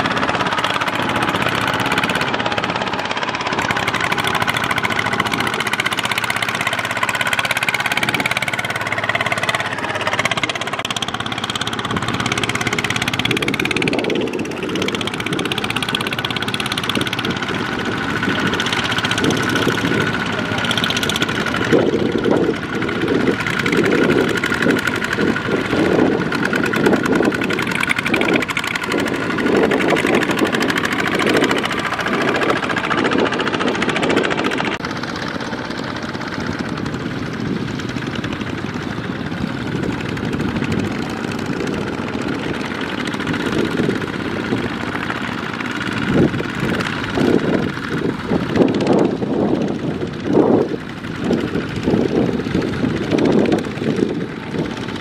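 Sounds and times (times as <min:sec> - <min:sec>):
diesel engines running hard: 0:00.0 - 0:55.0.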